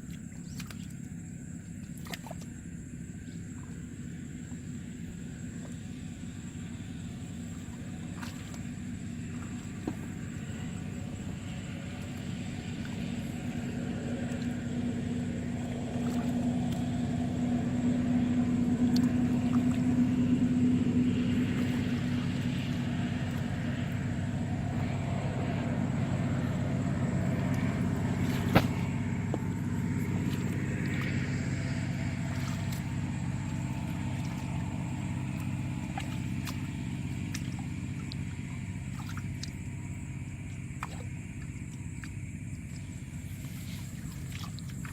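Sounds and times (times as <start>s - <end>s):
engine humming low: 0.0s - 44.9s.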